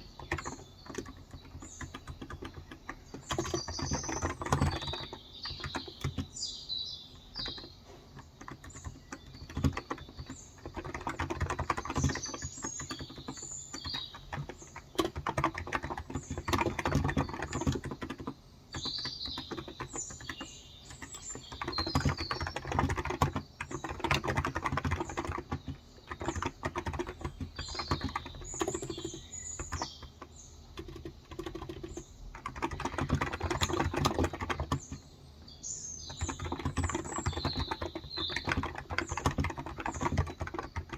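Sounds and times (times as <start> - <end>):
keyboard typing: 0.0 - 6.5, 7.1 - 35.1, 36.0 - 40.9
small birds chirping: 0.0 - 40.9.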